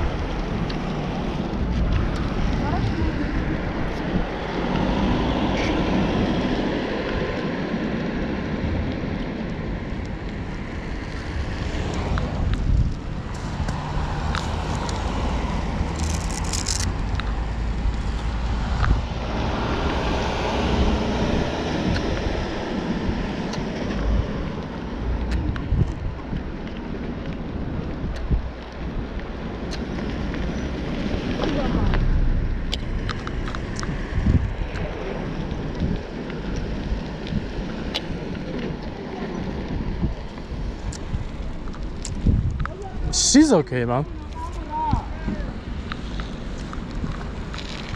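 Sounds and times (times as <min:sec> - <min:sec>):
wind on microphone: 0:00.0 - 0:43.2, 0:44.1 - 0:47.9
bicycle road noise: 0:00.0 - 0:47.9.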